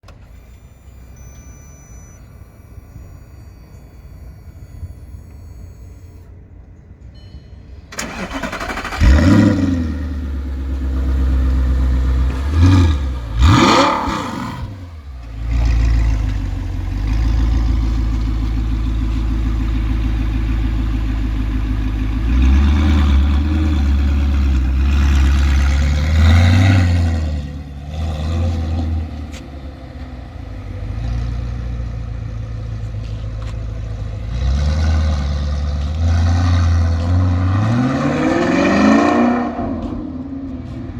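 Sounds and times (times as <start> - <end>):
car engine idling: 0.0 - 7.1, 7.7 - 36.1
car engine starting: 0.0 - 7.1, 7.7 - 40.9
engine throttle blips: 0.0 - 40.9.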